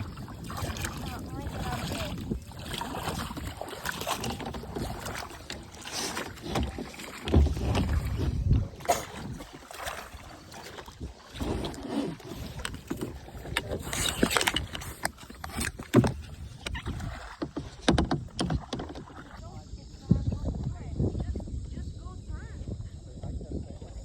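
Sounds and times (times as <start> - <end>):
water splashing around kayaks: 0.0 - 24.0
wind rumbling on microphone: 0.0 - 24.0.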